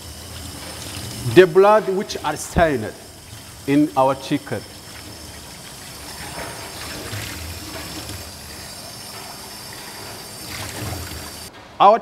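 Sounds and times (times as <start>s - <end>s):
tap water splashing into sink: 0.1s - 11.5s.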